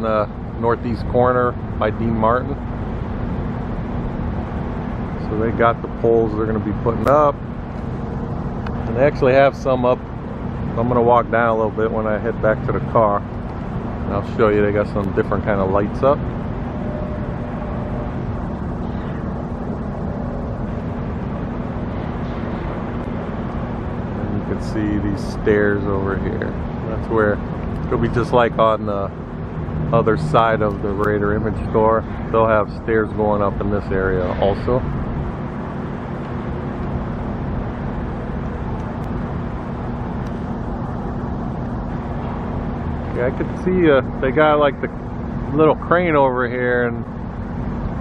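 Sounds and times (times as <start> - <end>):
low rumble with hum: 0.0 - 48.0
road traffic: 0.0 - 48.0.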